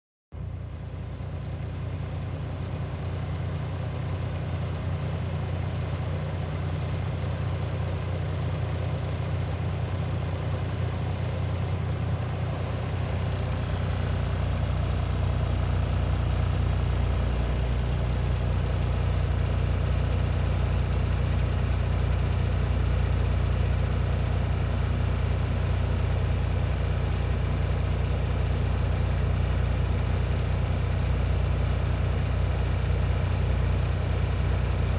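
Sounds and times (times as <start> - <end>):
heavy diesel engine running: 0.3 - 34.9.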